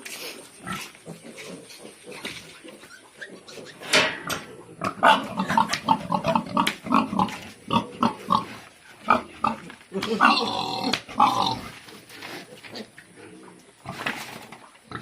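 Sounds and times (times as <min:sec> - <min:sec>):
pigs grunting: 0:00.3 - 0:15.0.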